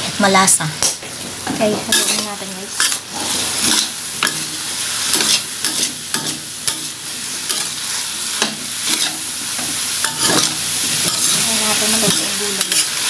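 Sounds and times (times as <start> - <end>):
frying sizzle: 0.0 - 13.0
metal spatula scraping a pan: 1.9 - 13.0.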